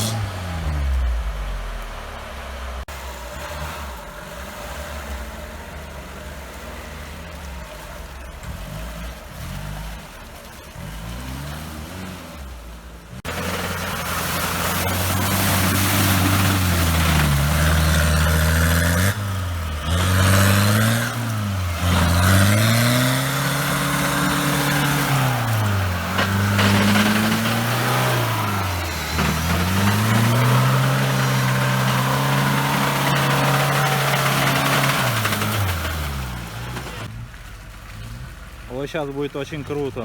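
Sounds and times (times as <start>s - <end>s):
off-road engine revving: 0.0s - 40.0s.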